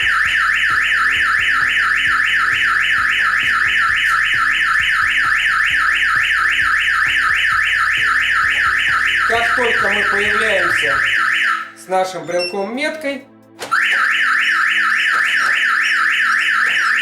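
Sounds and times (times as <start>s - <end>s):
car alarm siren wailing: 0.0s - 12.8s, 13.6s - 17.0s.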